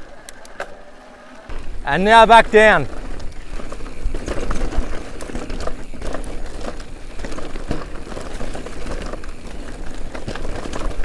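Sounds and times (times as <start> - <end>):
bike clicks and rattles: 0.0 - 11.0
tyres crunching over gravel: 1.5 - 11.0.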